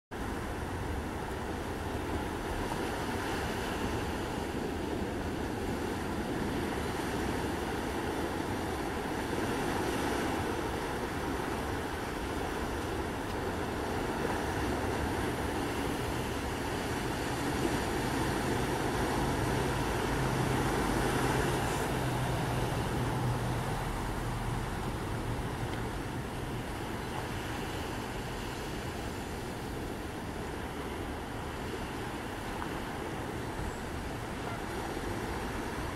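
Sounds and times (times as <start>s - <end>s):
ocean surf: 0.1s - 35.9s.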